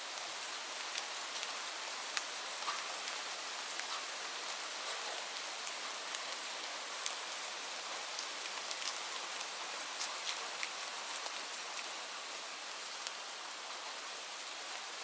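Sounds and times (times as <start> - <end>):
rain on leaves: 0.0 - 15.0.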